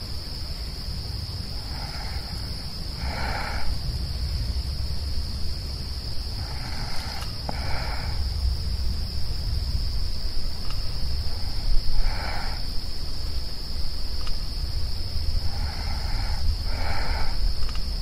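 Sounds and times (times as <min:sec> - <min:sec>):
crickets trilling: 0:00.0 - 0:18.0
low rumble: 0:02.3 - 0:17.8.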